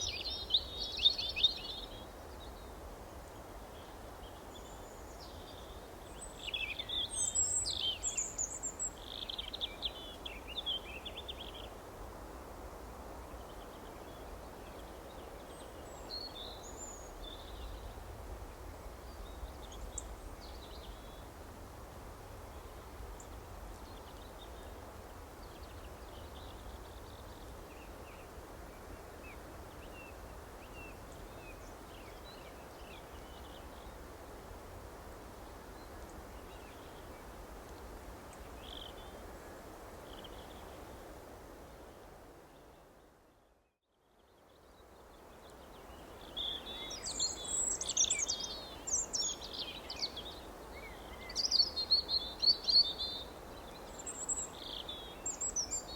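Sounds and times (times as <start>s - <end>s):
steady background hiss: 0.0s - 43.5s, 44.1s - 55.9s.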